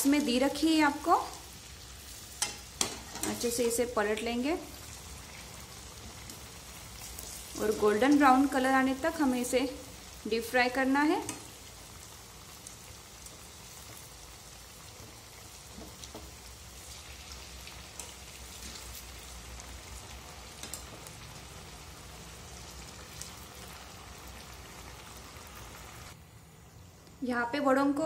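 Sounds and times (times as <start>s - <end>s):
food deep-frying in hot oil: 0.0s - 27.2s.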